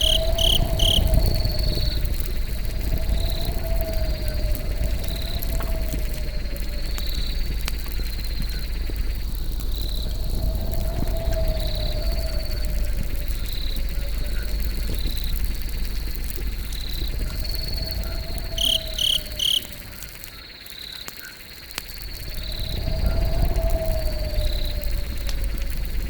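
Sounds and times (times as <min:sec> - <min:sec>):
low rumble: 0:00.0 - 0:20.3, 0:21.9 - 0:26.0
campfire crackling and popping: 0:00.0 - 0:26.0
crickets trilling: 0:00.0 - 0:26.0.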